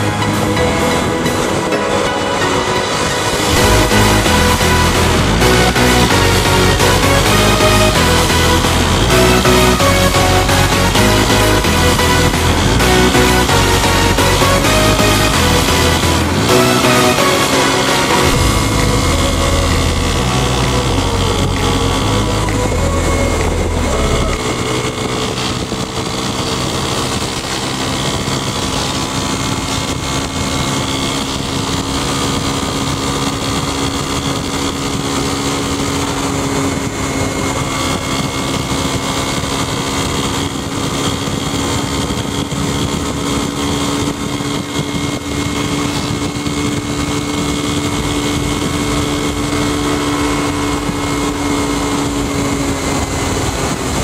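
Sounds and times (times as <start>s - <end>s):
deeper rumble: 0.0s - 44.6s
motorcycle engine running: 0.0s - 54.0s.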